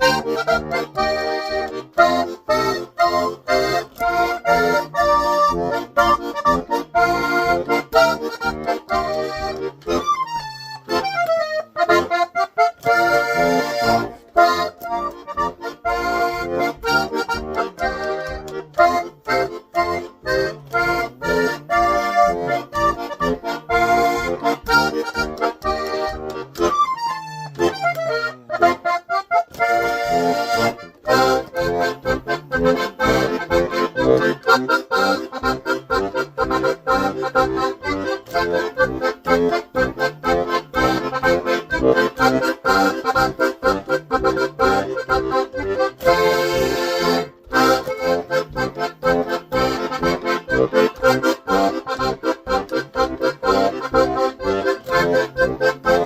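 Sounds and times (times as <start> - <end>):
accordion playing polka: 0.0 - 56.0.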